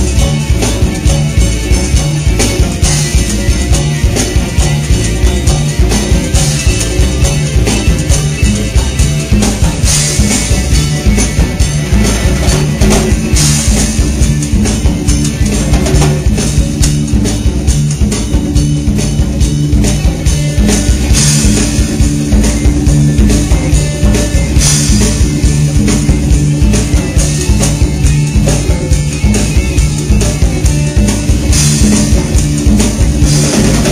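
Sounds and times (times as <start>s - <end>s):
drum kit beat: 0.0s - 33.9s
rock band playing: 0.0s - 33.9s.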